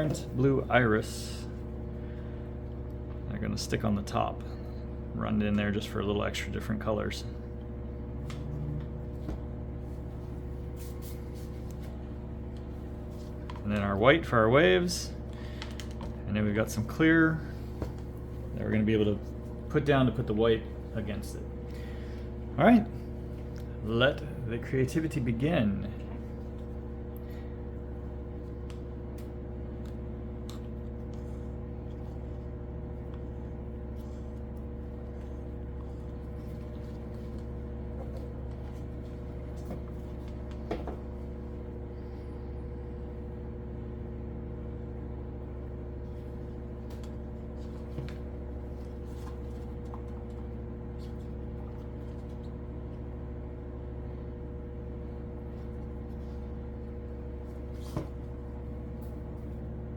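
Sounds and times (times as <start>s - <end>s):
steady machine hum: 0.0s - 59.9s.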